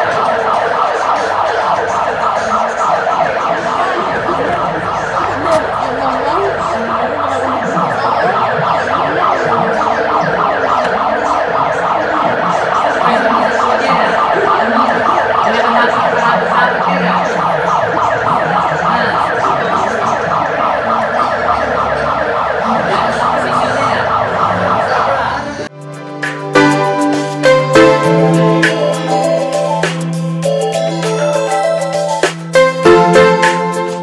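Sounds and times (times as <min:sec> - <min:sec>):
warbling electronic alarm siren: 0:00.0 - 0:25.7, 0:26.6 - 0:34.0.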